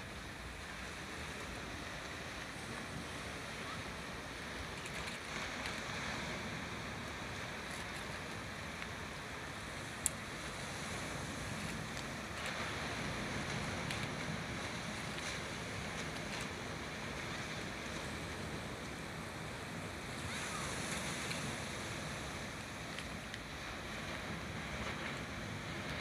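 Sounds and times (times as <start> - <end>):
ocean surf breaking on rocks: 0.0 - 26.0.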